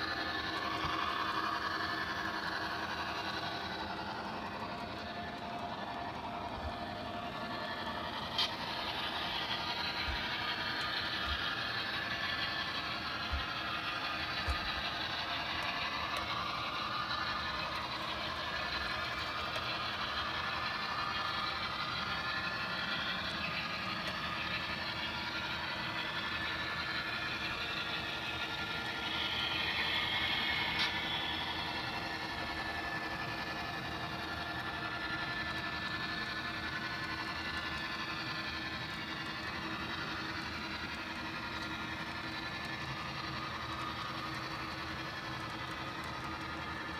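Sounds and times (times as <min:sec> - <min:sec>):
model train running on track: 0:00.0 - 0:46.9.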